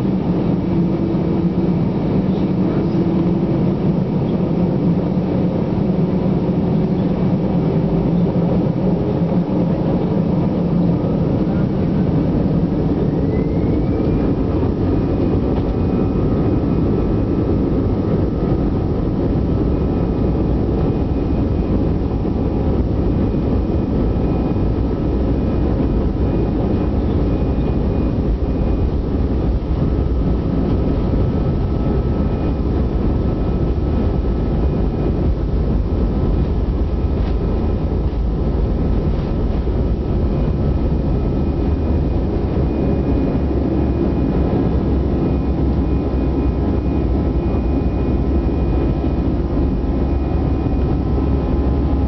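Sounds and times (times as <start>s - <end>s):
jet engines rumbling and whining: 0.0s - 52.0s.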